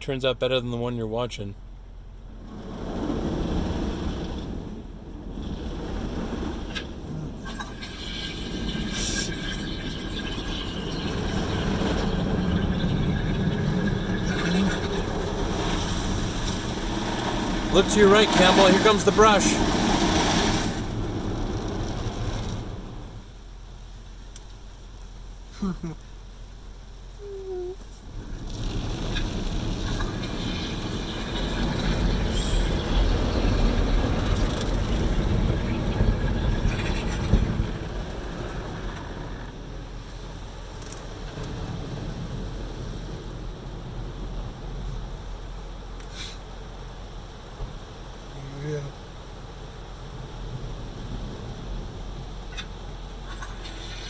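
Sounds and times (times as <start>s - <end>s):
car wash machinery rumbling: 1.0s - 54.0s
car wash hiss: 2.3s - 54.0s.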